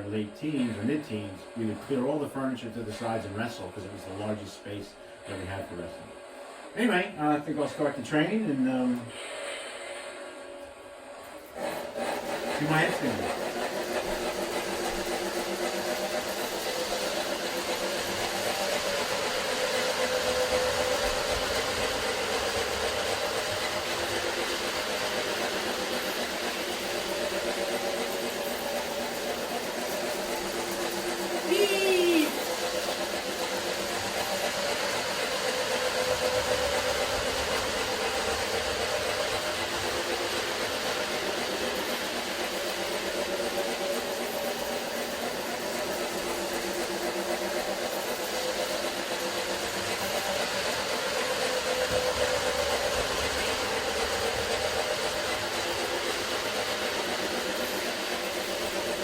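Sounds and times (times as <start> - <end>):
model train motor hum: 0.0 - 59.0.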